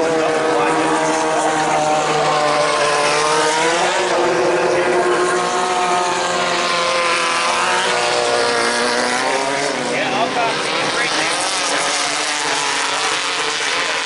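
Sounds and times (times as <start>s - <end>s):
buggy engines revving: 0.0s - 14.0s.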